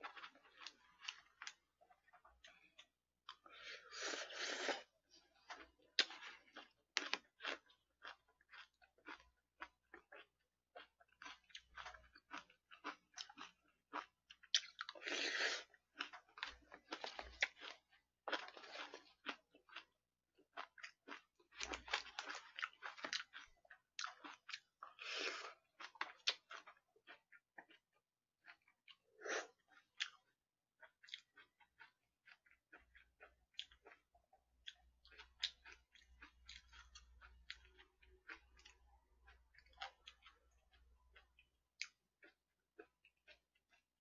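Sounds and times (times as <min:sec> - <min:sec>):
wet chewing and crunching: 0:00.0 - 0:44.0.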